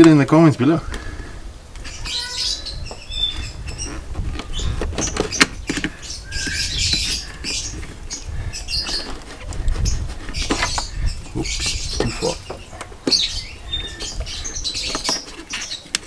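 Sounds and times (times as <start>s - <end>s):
rustling: 1.0s - 16.0s.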